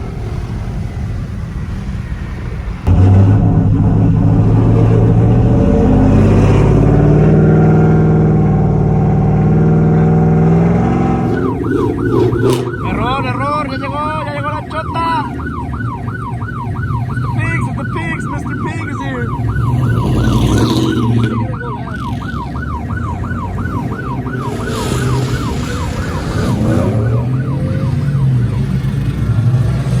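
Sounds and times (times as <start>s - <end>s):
engine revving: 0.0s - 30.0s
vehicle engines running: 0.0s - 30.0s
police siren yelping: 2.8s - 30.0s.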